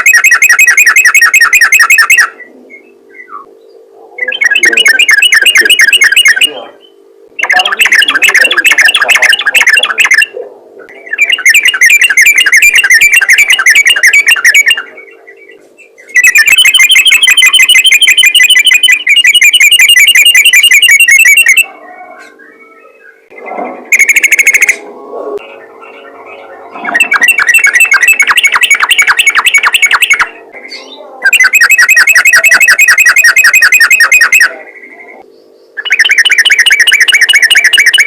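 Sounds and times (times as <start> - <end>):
bird singing chattering bursts: 0.0 - 3.5, 4.2 - 21.7, 23.2 - 24.8, 26.7 - 34.6, 35.7 - 38.0
faint steady hum: 0.0 - 38.0.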